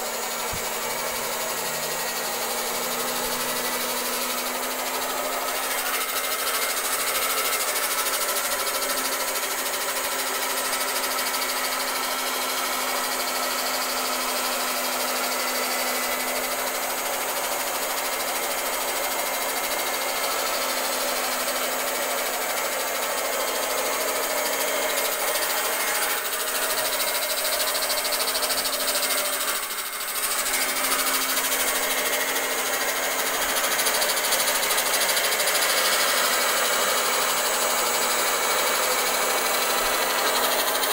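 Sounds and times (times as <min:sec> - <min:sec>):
electric cloth cutter running: 0:00.0 - 0:40.9.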